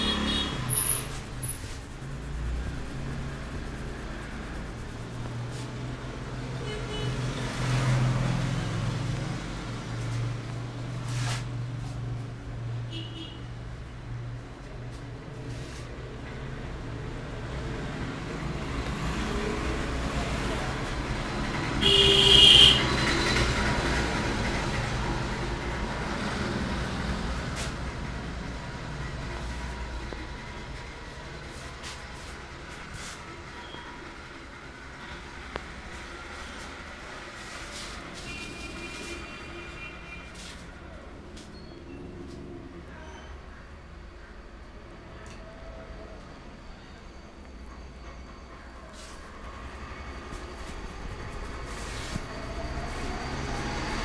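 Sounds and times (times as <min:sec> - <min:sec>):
vehicle engine hum: 0:00.0 - 0:12.9, 0:13.5 - 0:42.9, 0:48.6 - 0:54.0
street traffic: 0:00.0 - 0:54.0.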